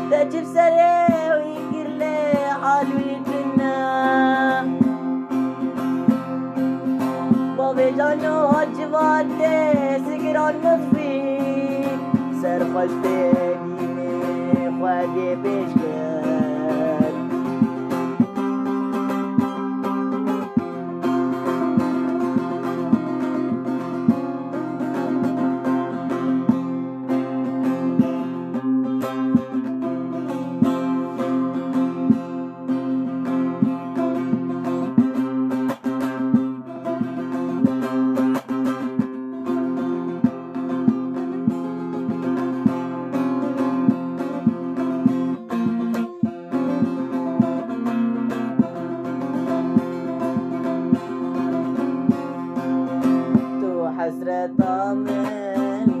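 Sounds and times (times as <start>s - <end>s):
plucked string instrument: 0.0s - 56.0s.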